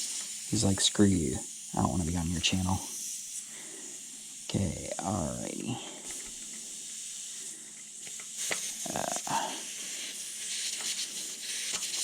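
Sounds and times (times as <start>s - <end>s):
air hissing out of tire: 0.0s - 12.0s.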